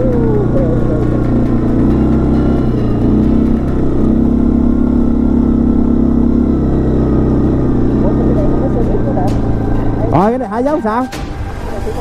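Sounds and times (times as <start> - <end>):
quad bike engine under load: 0.0 - 11.0.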